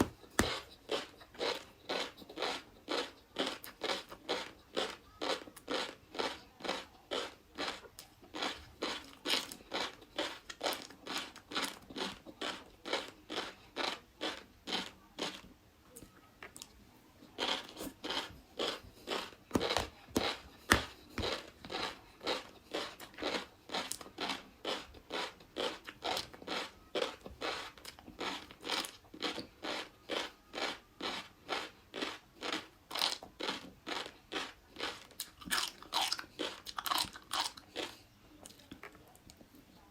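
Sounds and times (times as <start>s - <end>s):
chewing crunchy food: 0.0s - 39.8s.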